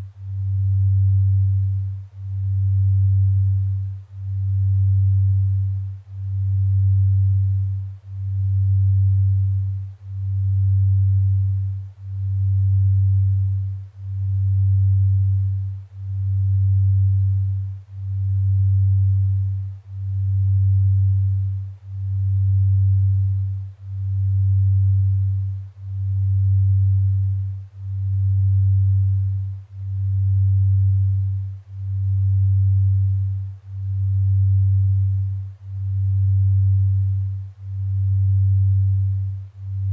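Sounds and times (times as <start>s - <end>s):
low pulsing pure tone: 0.0s - 39.9s.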